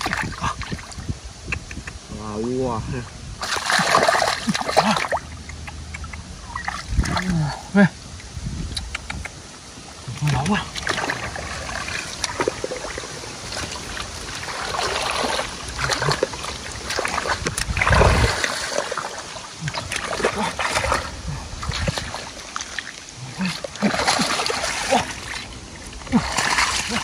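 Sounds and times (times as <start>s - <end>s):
water splashing and sloshing: 0.0s - 1.8s, 3.0s - 27.0s.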